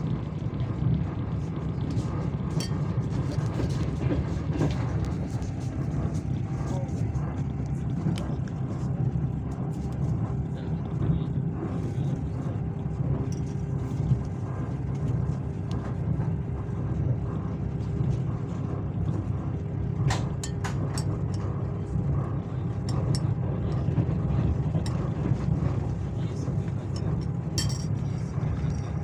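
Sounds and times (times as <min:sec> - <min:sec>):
train carriage rumble: 0:00.0 - 0:29.0.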